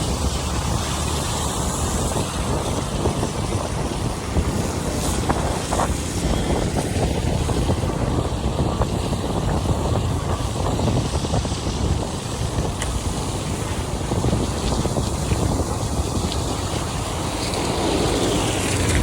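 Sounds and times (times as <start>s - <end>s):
low engine rumble: 0.0s - 19.0s
tyres on wet asphalt: 0.0s - 19.0s
wind on microphone: 0.0s - 19.0s.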